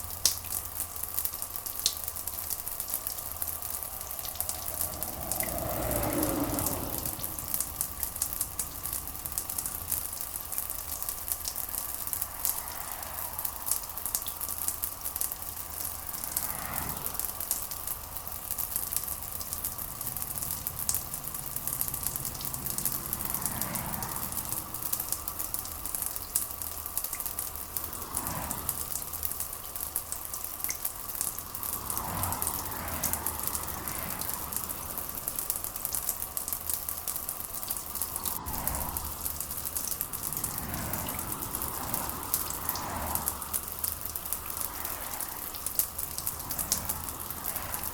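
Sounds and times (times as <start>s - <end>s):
steady rain patter: 0.0s - 47.9s.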